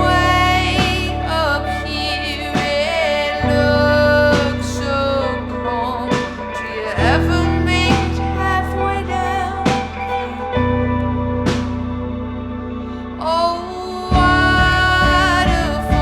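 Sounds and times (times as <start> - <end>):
held bass notes: 0.0 - 16.0
wavering guitar lines: 0.0 - 16.0.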